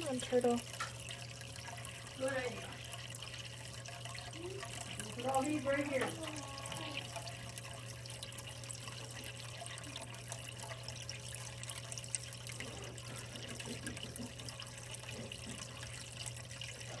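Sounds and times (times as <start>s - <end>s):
low steady hum: 0.0s - 17.0s
water trickling: 0.0s - 17.0s.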